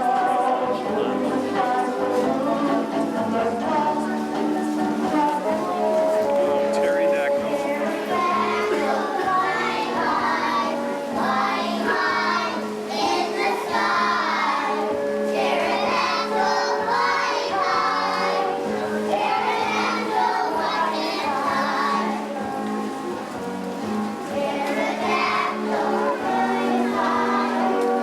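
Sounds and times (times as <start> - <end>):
children singing together: 0.0 - 6.3, 7.4 - 28.0
instrumental accompaniment: 0.0 - 28.0.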